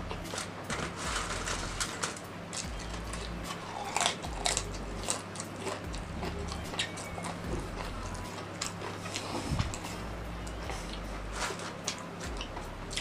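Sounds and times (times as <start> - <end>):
crisp chips crunching: 0.0 - 13.0.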